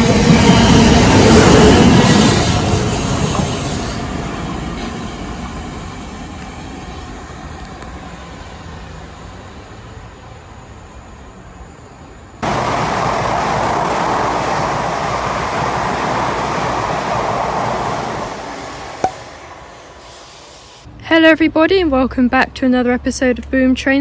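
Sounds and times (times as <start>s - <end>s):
train rushing past at speed: 0.0s - 20.9s
passing train rumble: 0.0s - 21.1s.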